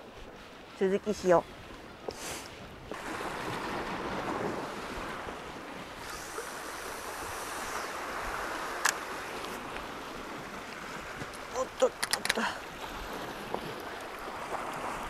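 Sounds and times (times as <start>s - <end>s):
sea surf on rocky shore: 0.0s - 15.0s
wind on microphone: 0.0s - 15.0s.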